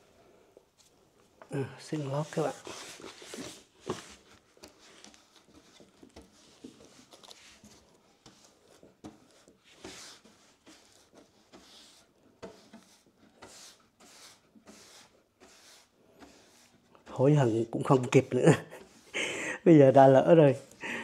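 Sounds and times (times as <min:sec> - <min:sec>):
paintbrush swishing on wood: 0:01.9 - 0:19.2.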